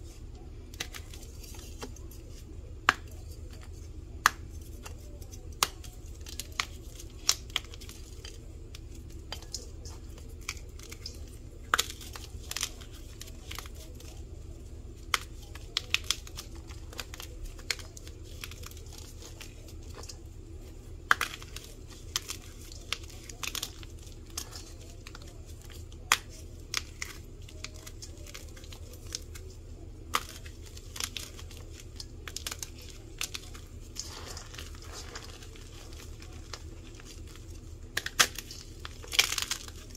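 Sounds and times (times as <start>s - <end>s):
powder blocks crunching: 0.0s - 39.9s
steady low hum: 0.0s - 39.9s.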